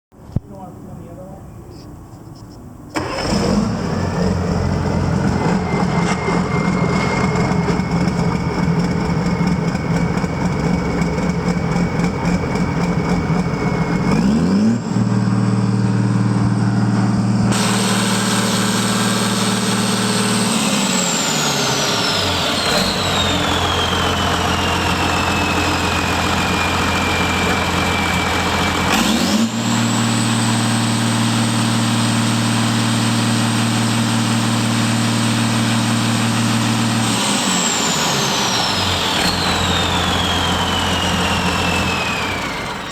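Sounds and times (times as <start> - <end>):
high turbo whine: 0.2 - 42.9
diesel engine idling and revving: 2.9 - 42.9.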